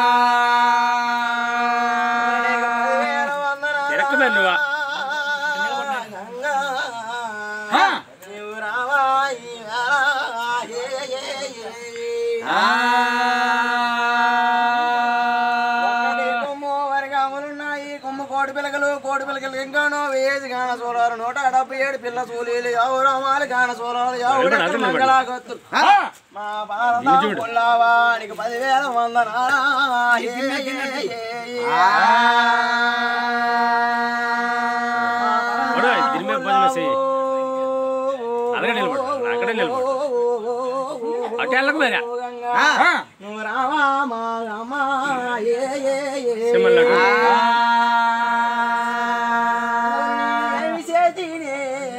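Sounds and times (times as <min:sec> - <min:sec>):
man singing devotional song: 0:00.0 - 0:51.9.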